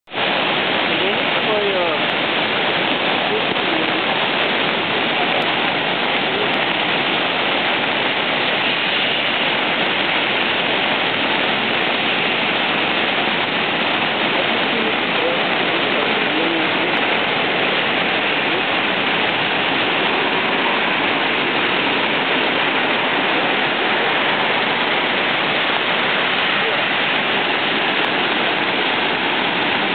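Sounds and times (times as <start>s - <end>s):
floodwater rushing: 0.0s - 29.9s.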